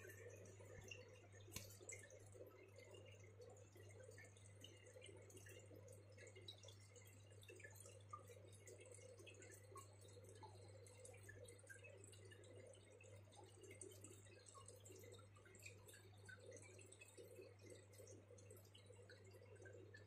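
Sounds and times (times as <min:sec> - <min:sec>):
water trickling and dripping: 0:00.0 - 0:20.0.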